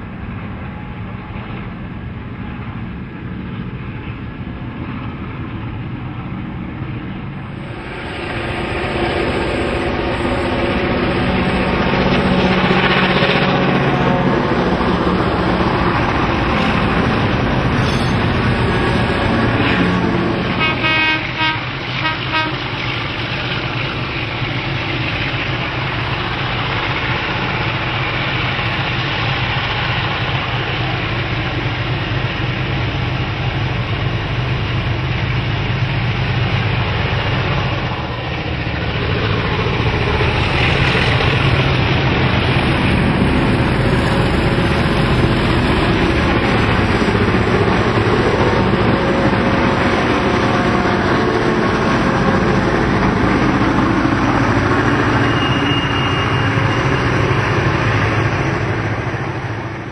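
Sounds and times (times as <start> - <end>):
diesel locomotive engines: 0.0 - 59.9.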